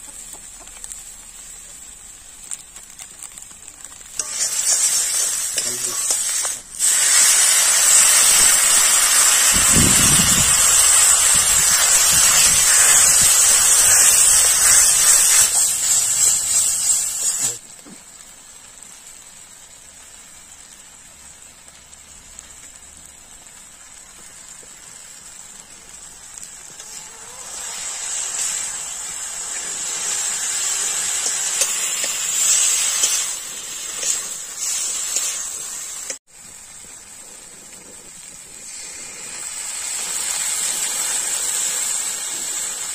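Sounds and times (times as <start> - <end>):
curry simmering hiss: 0.0 - 42.9
spices sizzling in a pan: 0.0 - 42.9.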